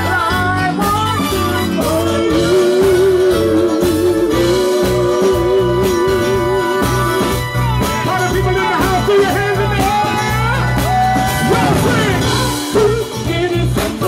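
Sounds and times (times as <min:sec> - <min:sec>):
bass guitar: 0:00.0 - 0:14.0
drums: 0:00.0 - 0:14.0
person singing: 0:00.0 - 0:14.0.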